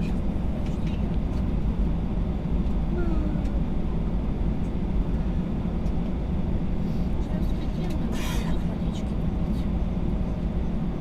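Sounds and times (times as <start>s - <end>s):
aircraft cabin low rumble: 0.0s - 11.0s.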